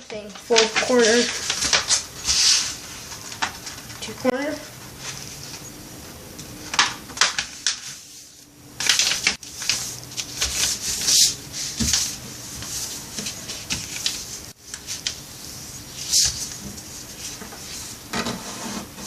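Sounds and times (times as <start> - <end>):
paper being folded: 0.1 - 5.6, 6.6 - 18.0.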